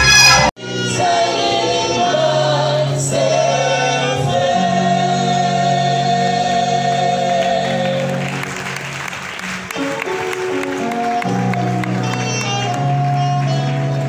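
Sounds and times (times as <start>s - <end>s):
choir singing: 0.0s - 8.8s, 9.8s - 13.7s.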